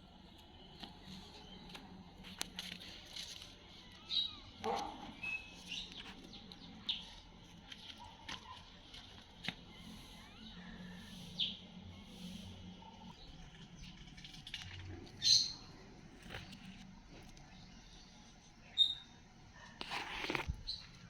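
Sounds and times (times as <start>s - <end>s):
birds chirping: 0.0s - 3.0s, 3.6s - 19.3s.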